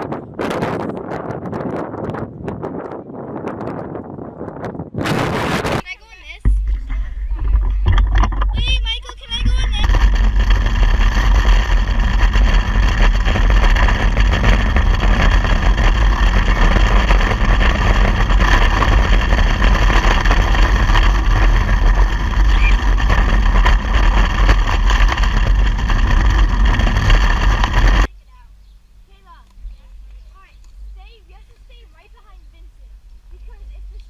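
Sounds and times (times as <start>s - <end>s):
strong wind buffeting microphone: 0.0s - 28.1s.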